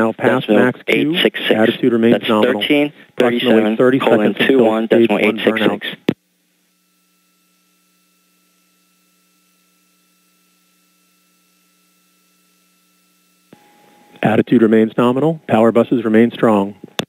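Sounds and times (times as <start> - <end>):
faint electronic hum: 0.0 - 17.0.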